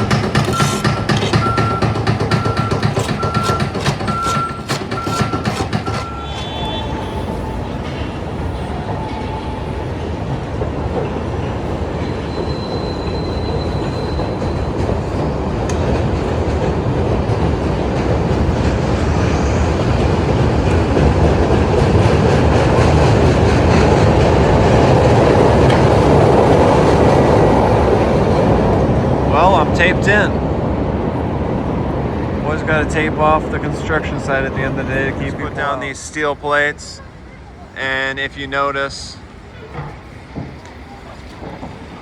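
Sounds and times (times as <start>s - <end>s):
train wheel clatter: 0.0s - 37.0s, 37.8s - 42.0s
elevated train rumbling: 0.0s - 42.0s.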